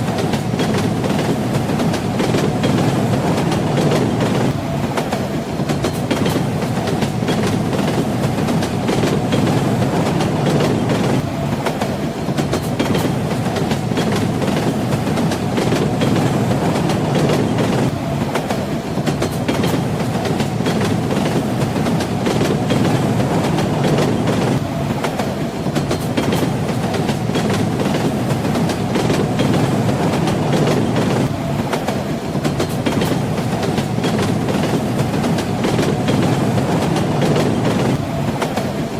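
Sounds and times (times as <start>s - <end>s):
railway carriage rumble: 0.0s - 38.9s
train wheels clattering: 0.0s - 38.9s.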